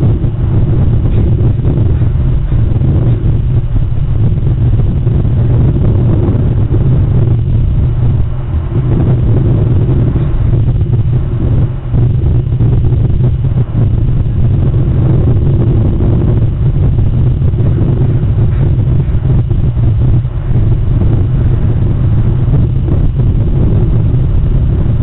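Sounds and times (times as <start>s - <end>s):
loud low rumble: 0.0s - 25.0s.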